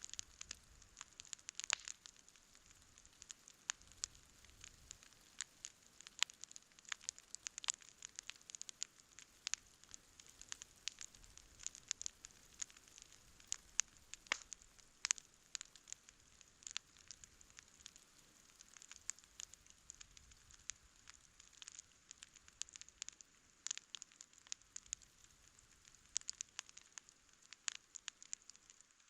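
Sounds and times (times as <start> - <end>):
campfire crackling and popping: 0.0 - 29.0
faint steady hiss: 0.0 - 29.0.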